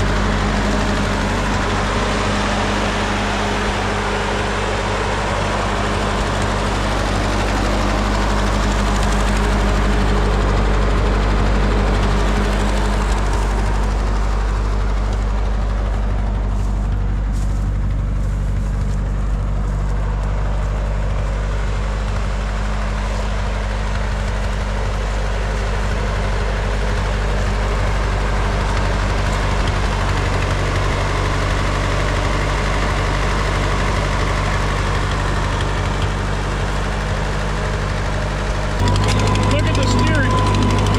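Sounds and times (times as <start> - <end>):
engine humming steadily: 0.0 - 40.9.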